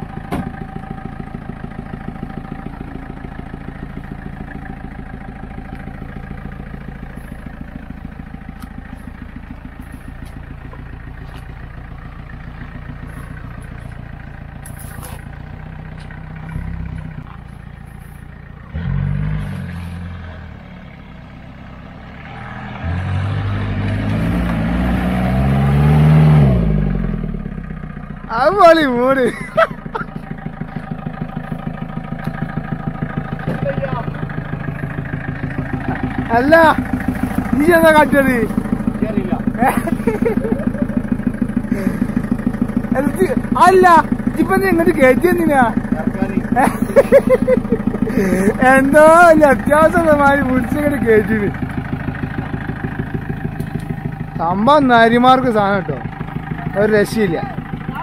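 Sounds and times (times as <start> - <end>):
jeep engine running and revving: 0.0 - 58.0.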